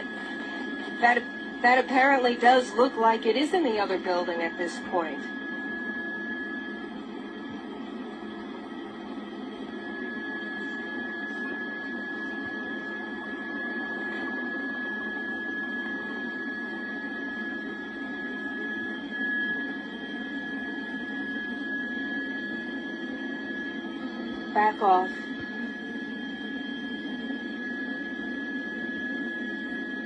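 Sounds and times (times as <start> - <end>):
high-pitched whine: 0.0 - 30.0
low hum: 0.0 - 30.0.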